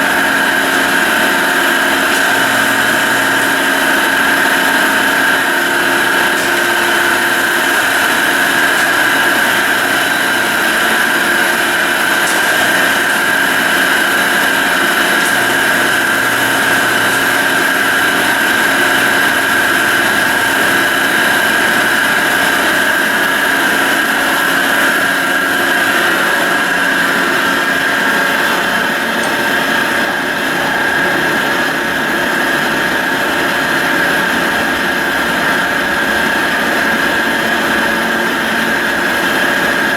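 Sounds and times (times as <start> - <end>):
drill press machine hum: 0.0 - 39.9
high-pitched gear whine: 0.0 - 39.9.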